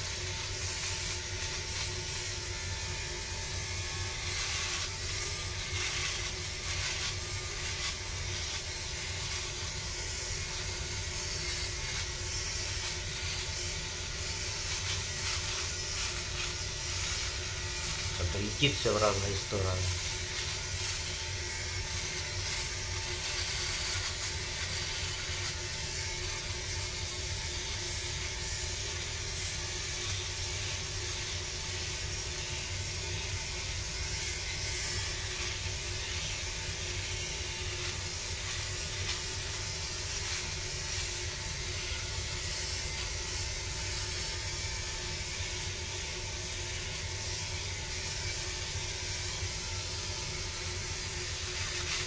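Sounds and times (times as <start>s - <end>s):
electric shaver humming over stubble: 0.0s - 52.0s.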